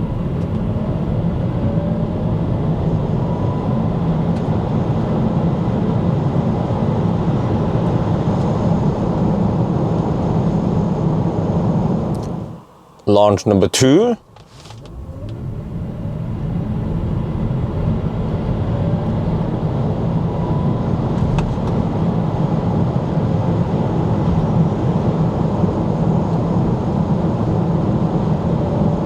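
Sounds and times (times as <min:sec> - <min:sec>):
electric car accelerating: 0:00.0 - 0:13.0, 0:14.6 - 0:29.0
road and tyre rumble: 0:00.0 - 0:13.2, 0:13.8 - 0:29.0.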